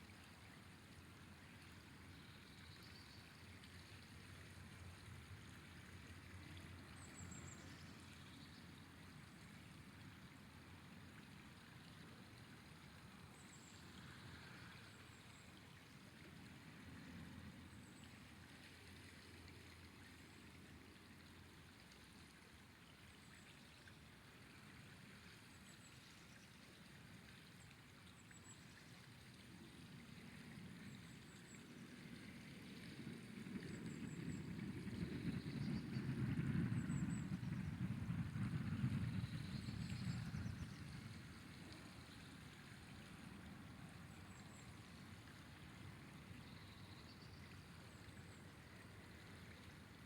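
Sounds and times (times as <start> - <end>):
river flowing: 0.0 - 35.3, 38.8 - 50.0.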